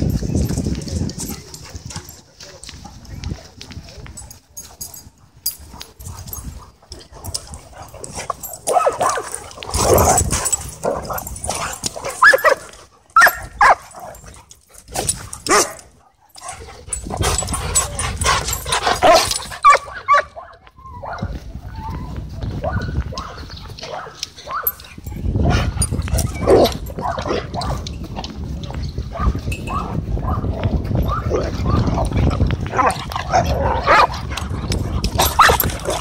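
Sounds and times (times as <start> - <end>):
dogs barking and yipping: 4.2 - 36.0.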